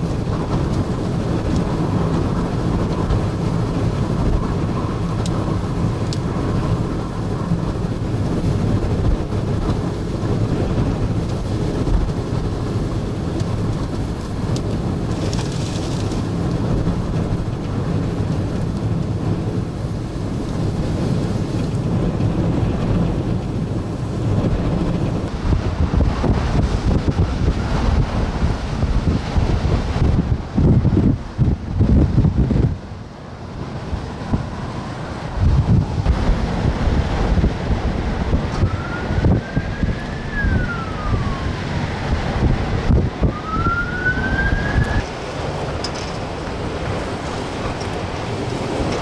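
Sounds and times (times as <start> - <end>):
wind buffeting the microphone: 0.0 - 49.0.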